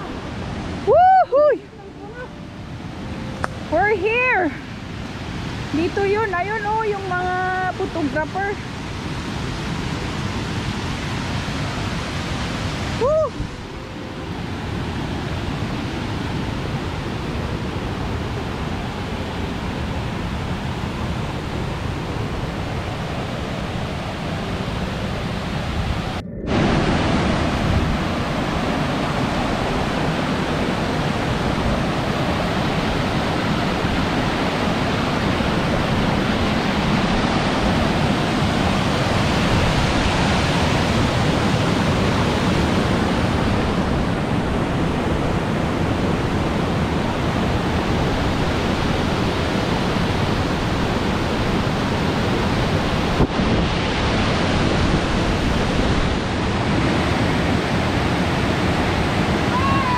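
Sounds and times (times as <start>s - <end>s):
stream and waterfall rushing: 0.0s - 59.9s.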